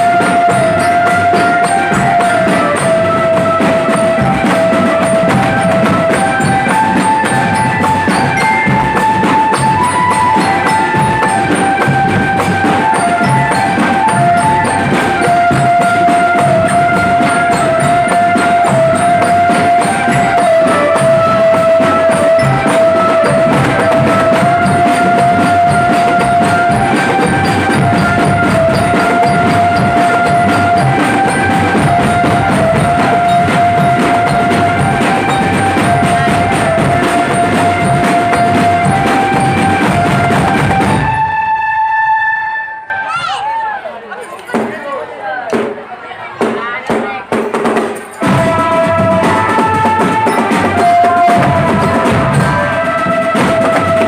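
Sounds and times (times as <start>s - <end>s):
bass and tenor drums beating: 0.0s - 41.7s, 44.5s - 54.0s
held melody line: 0.0s - 43.6s, 48.2s - 54.0s.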